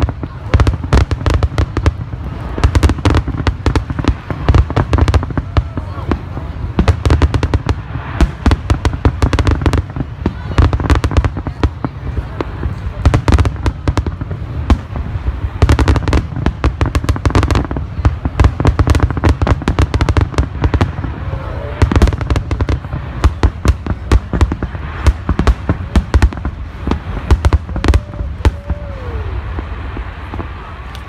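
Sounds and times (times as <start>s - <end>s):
fireworks bursts cracking: 0.0s - 31.0s.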